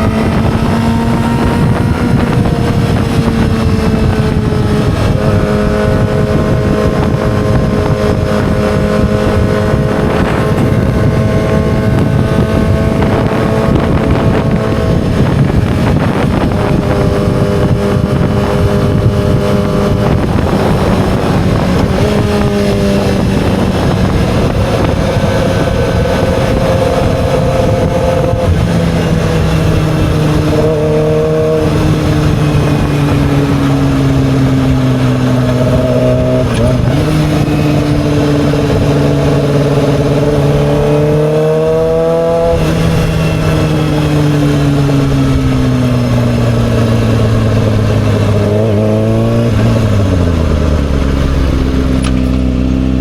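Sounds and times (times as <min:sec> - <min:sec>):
motorcycle engine revving: 0:00.0 - 0:53.0
wind rush on microphone: 0:00.0 - 0:53.0.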